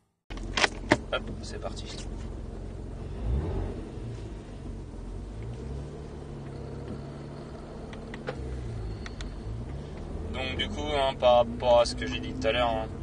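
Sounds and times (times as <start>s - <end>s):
car engine rumbling from inside cabin: 0.3s - 13.0s.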